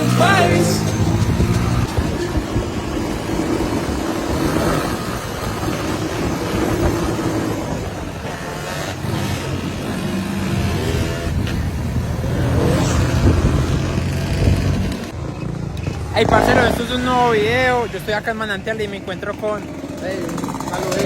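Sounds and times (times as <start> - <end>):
dirt bike engine revving: 0.0 - 17.9, 19.6 - 21.0.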